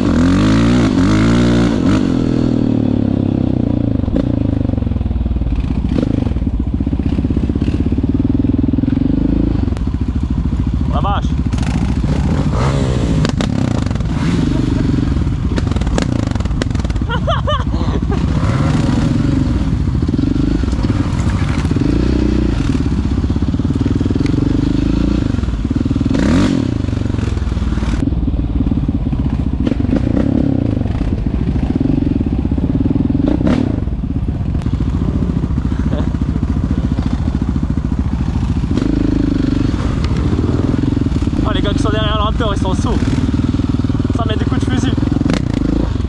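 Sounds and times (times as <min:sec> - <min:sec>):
quad engine revving: 0:00.0 - 0:05.0, 0:05.6 - 0:09.8, 0:10.8 - 0:28.1, 0:29.6 - 0:34.0, 0:38.2 - 0:46.0.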